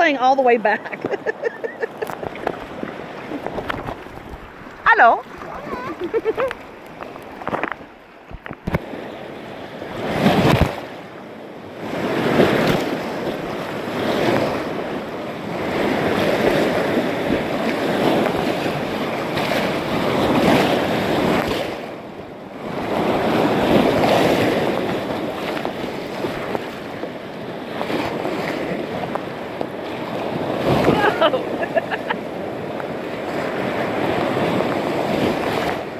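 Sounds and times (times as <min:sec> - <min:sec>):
rapids rushing and splashing: 0:00.0 - 0:35.9.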